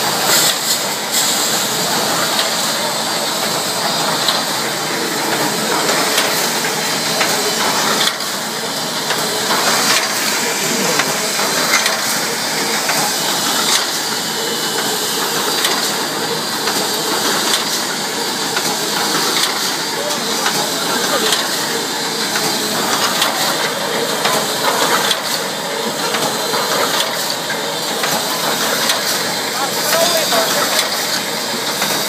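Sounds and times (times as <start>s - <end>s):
welding machine hissing: 0.0s - 32.0s.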